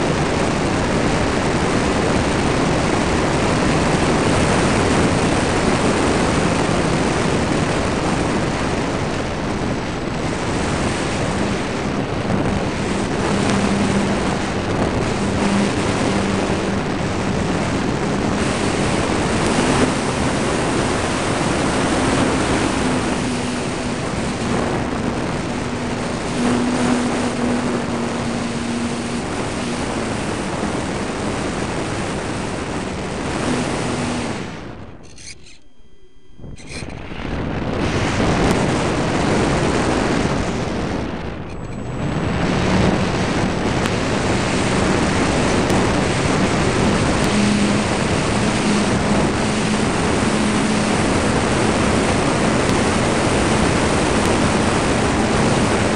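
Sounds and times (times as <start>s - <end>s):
electric motor and propeller tone: 0.0s - 55.9s
wind rush over microphone: 0.0s - 55.9s.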